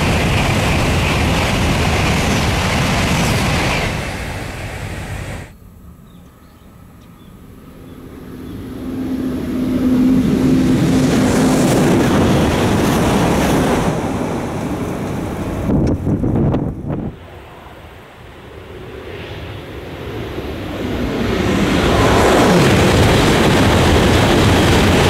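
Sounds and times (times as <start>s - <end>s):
train passing at high speed: 0.0s - 25.0s.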